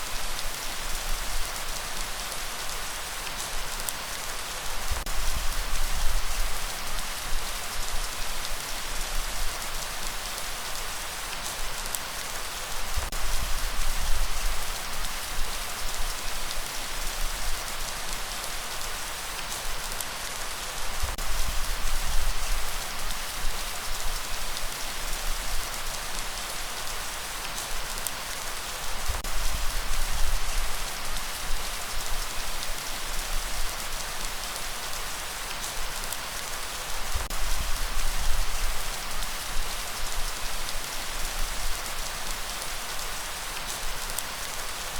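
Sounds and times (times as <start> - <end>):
dense rain hiss: 0.0 - 44.9.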